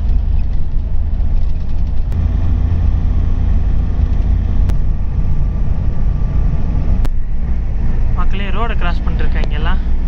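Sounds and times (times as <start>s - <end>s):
car road rumble from inside: 0.0s - 10.0s.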